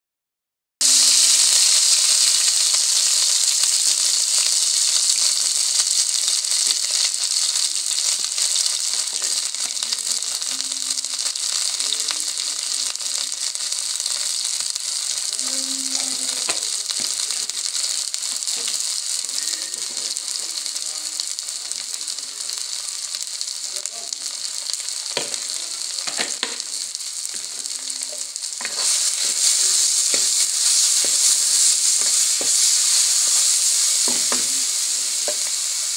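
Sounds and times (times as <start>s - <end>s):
food sizzling in hot oil: 0.8s - 35.9s.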